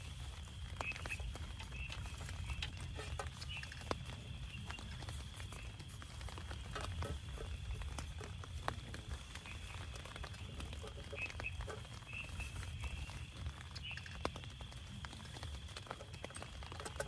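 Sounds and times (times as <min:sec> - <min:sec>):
rain pattering on a tent: 0:00.0 - 0:17.0.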